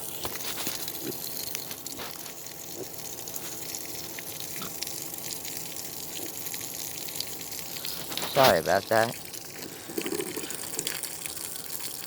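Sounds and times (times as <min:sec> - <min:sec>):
water running from a hose: 0:00.0 - 0:12.0.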